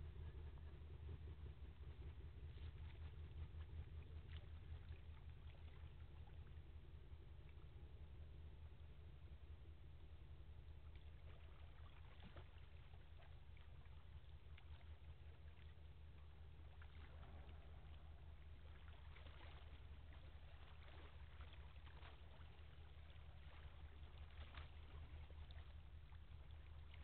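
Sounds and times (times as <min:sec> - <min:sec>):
distant tugboat engine drone: 0:00.0 - 0:27.0.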